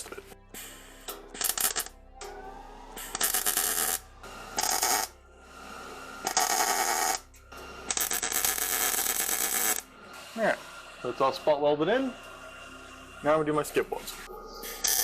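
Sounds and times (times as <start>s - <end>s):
welder arc bursts: 0.5s - 15.0s.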